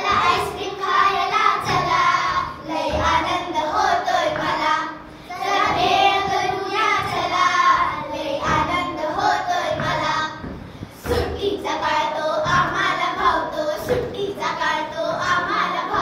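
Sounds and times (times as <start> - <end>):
children singing in unison: 0.0 - 16.0.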